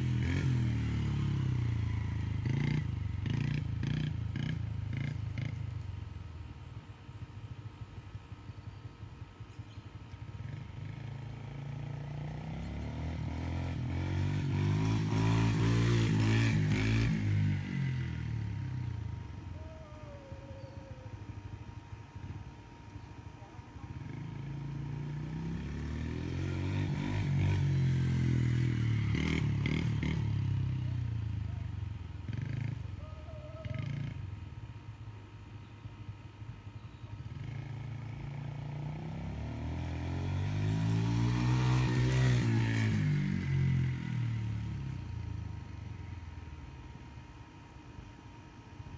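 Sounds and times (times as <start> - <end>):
dirt bike engine passing: 0.0 - 5.8, 10.1 - 34.7, 37.1 - 46.2.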